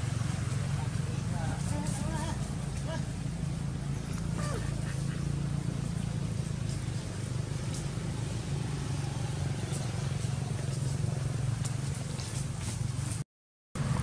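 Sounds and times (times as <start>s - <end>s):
low engine hum: 0.0s - 13.2s, 13.8s - 14.0s.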